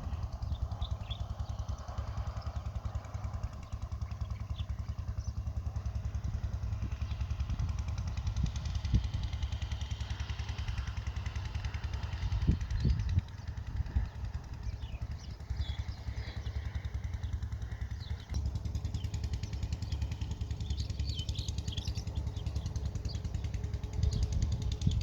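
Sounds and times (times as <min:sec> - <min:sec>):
wind buffeting microphone: 0:00.0 - 0:05.3, 0:06.0 - 0:25.0
small birds chirping: 0:00.0 - 0:25.0.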